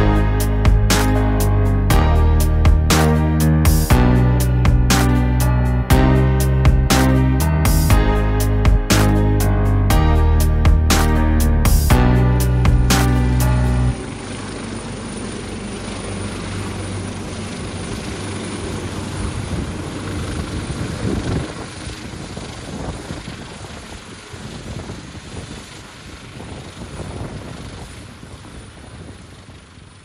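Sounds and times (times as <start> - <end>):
helicopter rotor beating: 0.0 - 30.0.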